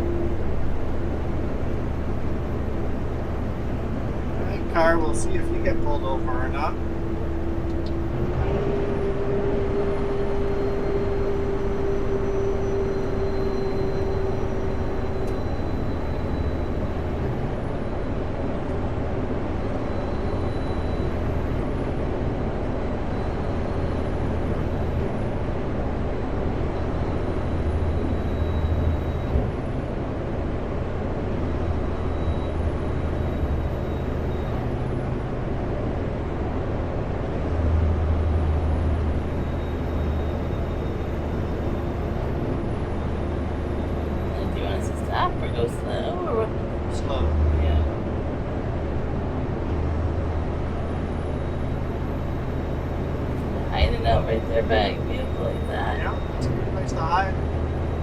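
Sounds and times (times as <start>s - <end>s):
road noise: 0.0s - 58.0s
steady whine: 0.0s - 58.0s
truck diesel engine droning: 0.0s - 58.0s.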